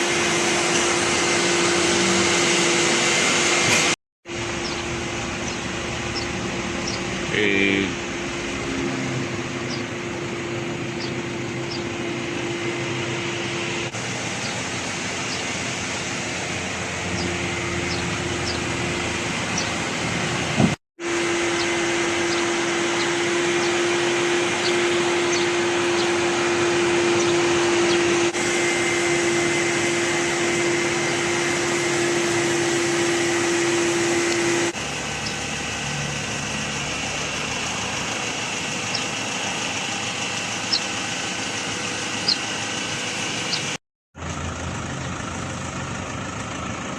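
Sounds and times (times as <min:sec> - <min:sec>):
machine humming: 0:00.0 - 0:43.8.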